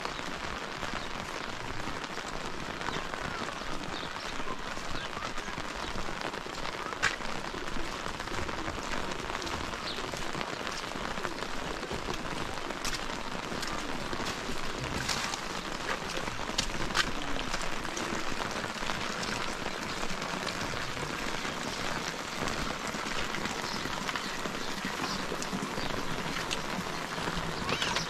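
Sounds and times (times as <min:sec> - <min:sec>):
heavy rain hissing: 0:00.0 - 0:28.0
raindrops ticking on surfaces: 0:00.0 - 0:28.0.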